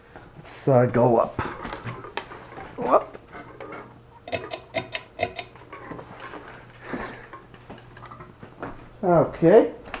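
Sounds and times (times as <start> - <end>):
ceiling fan low hum: 0.0 - 10.0.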